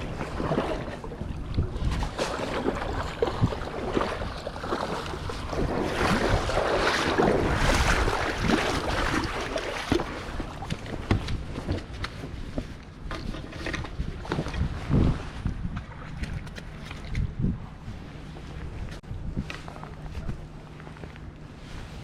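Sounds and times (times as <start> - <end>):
wind on microphone: 0.0 - 20.7.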